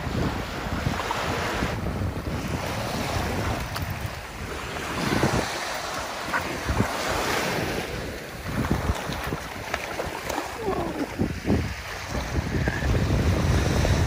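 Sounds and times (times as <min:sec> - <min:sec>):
small waves lapping on beach: 0:00.0 - 0:14.0
wind buffeting microphone: 0:00.0 - 0:14.0.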